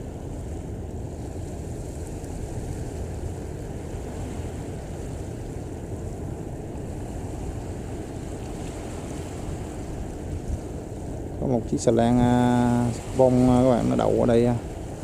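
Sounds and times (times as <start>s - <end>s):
moving water: 0.0s - 15.0s
ship engine low rumble: 0.0s - 15.0s
wind: 0.0s - 15.0s.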